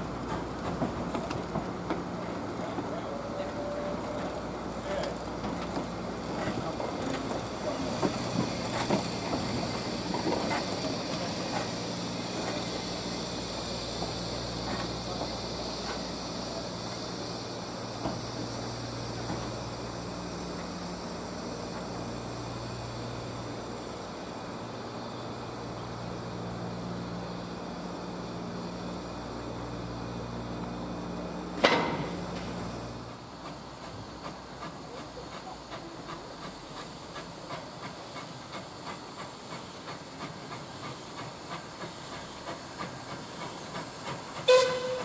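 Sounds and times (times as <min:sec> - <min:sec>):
steam hissing: 0:00.0 - 0:45.0.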